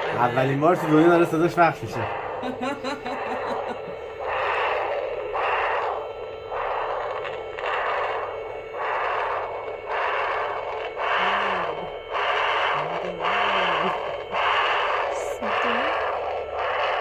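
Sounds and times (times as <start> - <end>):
whooshing heartbeat pulse: 0.8 - 17.0.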